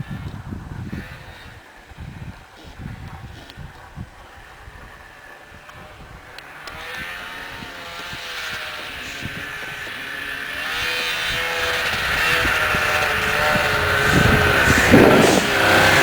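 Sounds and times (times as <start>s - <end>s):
snowmobile engine: 0.0s - 16.0s.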